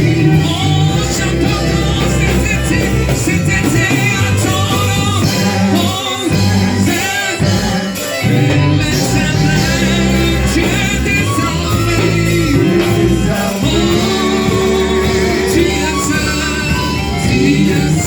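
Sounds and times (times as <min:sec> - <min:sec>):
band playing held bass notes: 0:00.0 - 0:18.0
voices singing: 0:00.0 - 0:18.0.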